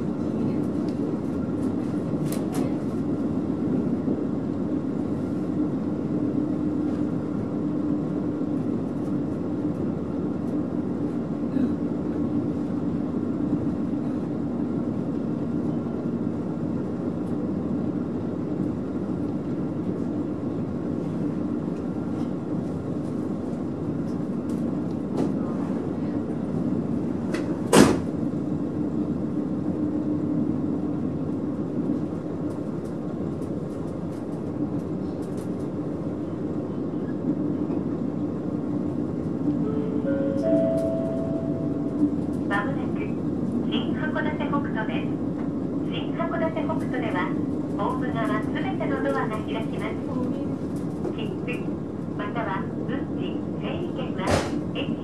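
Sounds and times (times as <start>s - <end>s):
railcar running rumble: 0.0s - 55.0s.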